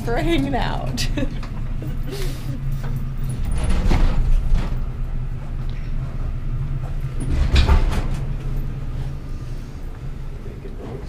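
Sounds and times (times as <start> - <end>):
bed casters rumbling: 0.0 - 11.0.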